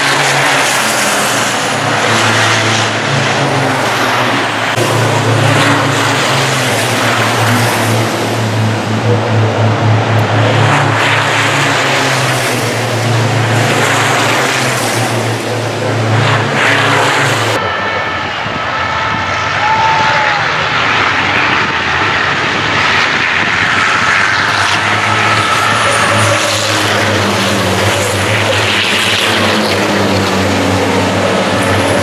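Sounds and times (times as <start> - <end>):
truck diesel engines running hard: 0.0 - 32.0.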